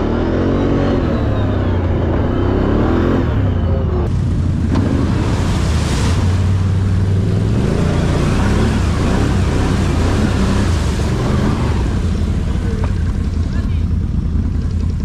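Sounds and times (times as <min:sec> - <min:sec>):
road and wind noise: 0:00.0 - 0:15.0
vehicle engine humming: 0:00.0 - 0:15.0.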